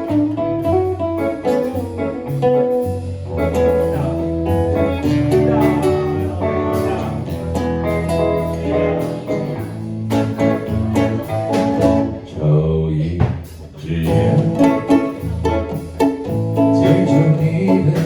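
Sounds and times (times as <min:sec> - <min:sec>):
acoustic and electric guitars: 0:00.0 - 0:18.0
bass line: 0:00.0 - 0:18.0.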